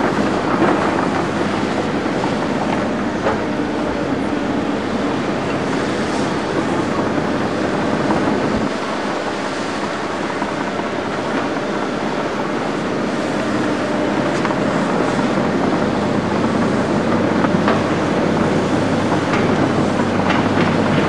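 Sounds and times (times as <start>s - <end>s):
excavator diesel engines running: 0.0s - 21.0s.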